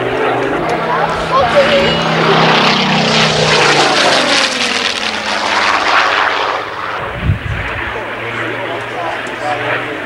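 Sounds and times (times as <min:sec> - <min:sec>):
propeller plane passing overhead: 0:00.0 - 0:10.0.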